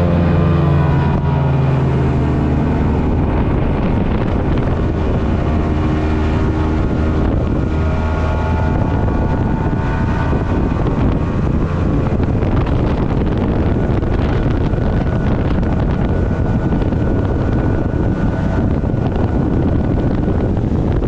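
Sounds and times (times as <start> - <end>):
outboard motor running: 0.0 - 21.0
wind buffeting the microphone: 0.0 - 21.0.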